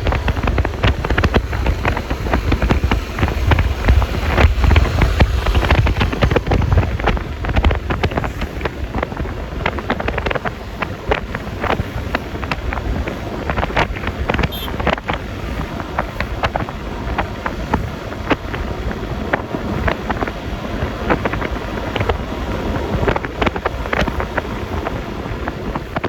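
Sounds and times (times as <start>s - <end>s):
road noise: 0.0s - 26.0s
wind buffeting microphone: 0.0s - 26.0s
wind crackles on microphone: 0.0s - 26.0s.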